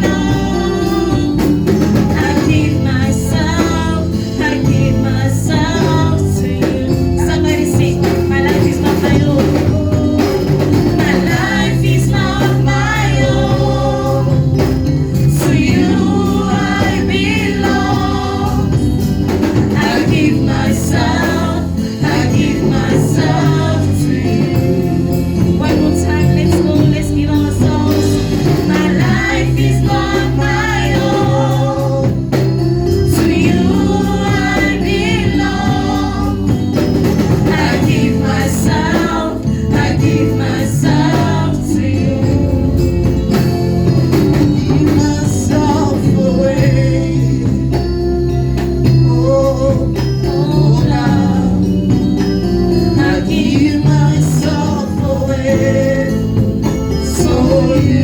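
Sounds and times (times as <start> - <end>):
band with bass and percussion: 0.0 - 58.0
choir singing gospel: 0.0 - 58.0.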